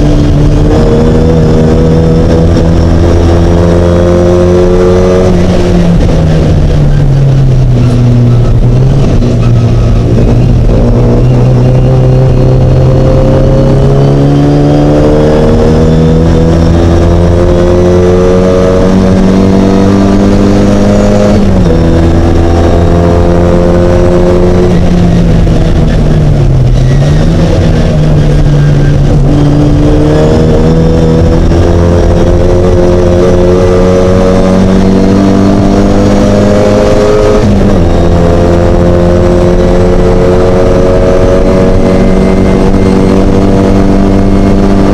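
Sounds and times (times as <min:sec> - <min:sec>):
race car engine revving: 0:00.0 - 0:44.9.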